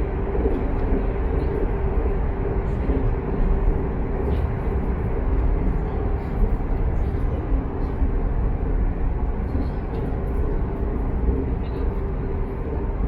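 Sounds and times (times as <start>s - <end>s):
train running at speed: 0.0s - 13.0s.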